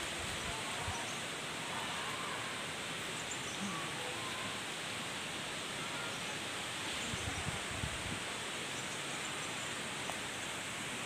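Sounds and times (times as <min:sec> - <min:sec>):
forest ambience hiss: 0:00.0 - 0:11.0.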